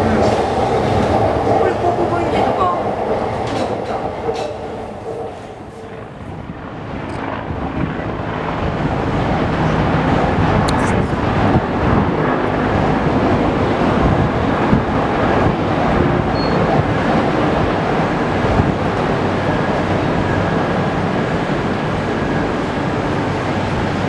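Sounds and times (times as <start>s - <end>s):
train wheels rumbling on rails: 0.0s - 6.6s, 8.7s - 24.0s.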